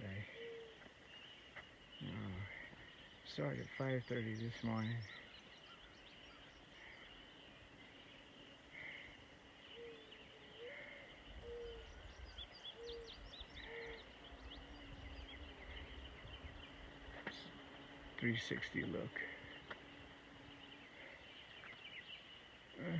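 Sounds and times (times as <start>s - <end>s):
faint songbirds: 0.0s - 22.9s.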